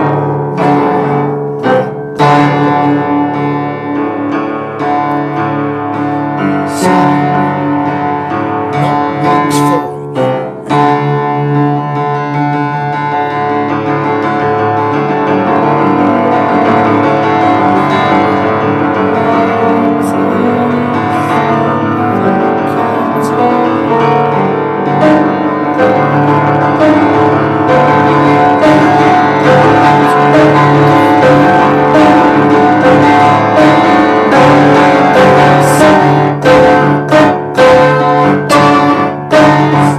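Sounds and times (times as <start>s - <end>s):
instrumental piano music: 0.0s - 39.9s.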